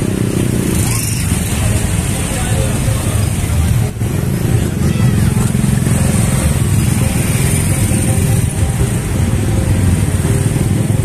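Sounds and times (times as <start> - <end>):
scooter engines running: 0.0 - 11.0.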